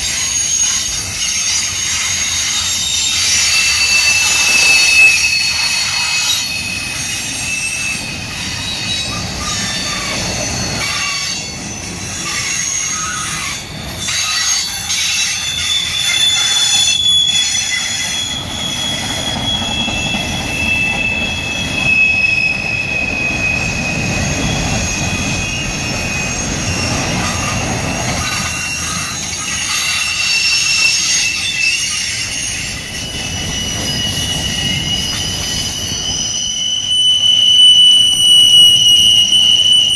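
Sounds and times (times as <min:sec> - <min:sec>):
low rumble of freight cars: 0:00.0 - 0:39.9
train wheels squealing: 0:00.0 - 0:39.9
wheels clicking on rails: 0:00.0 - 0:39.9.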